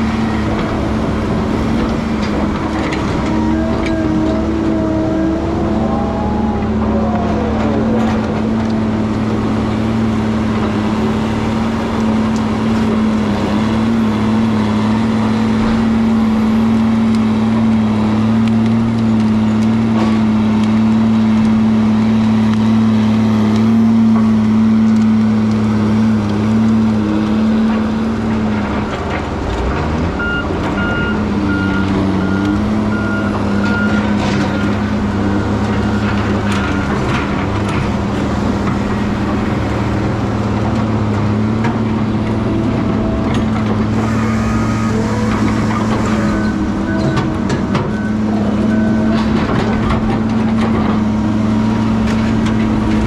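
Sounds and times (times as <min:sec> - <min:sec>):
heavy machine engine running: 0:00.0 - 0:53.0.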